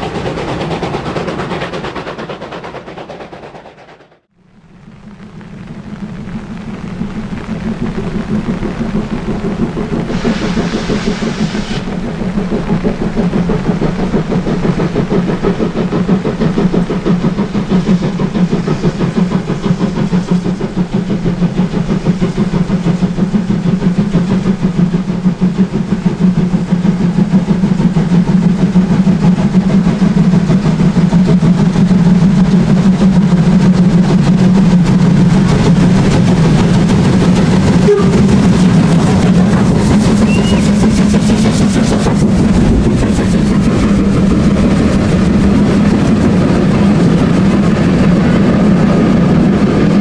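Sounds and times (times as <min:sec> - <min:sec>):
steam locomotive chuffing: 0:00.0 - 0:04.4, 0:07.1 - 0:50.0.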